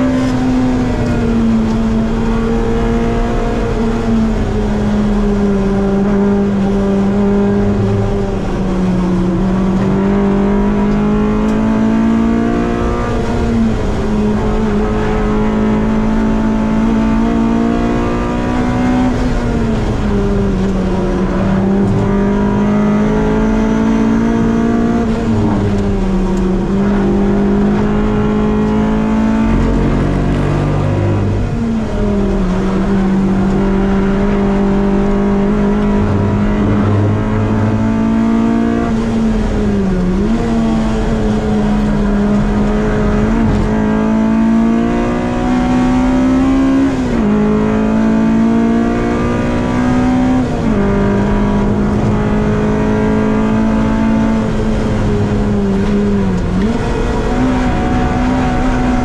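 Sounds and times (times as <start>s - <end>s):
car engine revving high: 0.0s - 59.0s
road and wind noise: 0.0s - 59.0s.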